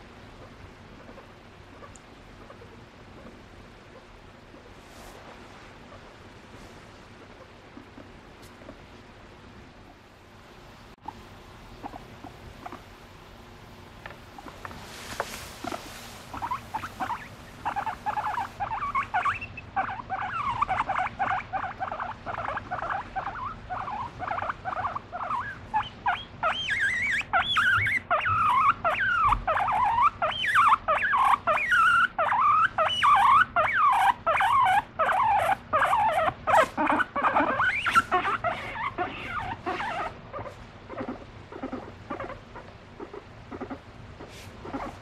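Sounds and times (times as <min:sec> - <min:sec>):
guinea pig squeaking: 0:00.3 - 0:06.2, 0:07.1 - 0:08.9, 0:11.0 - 0:13.0, 0:14.0 - 0:45.0.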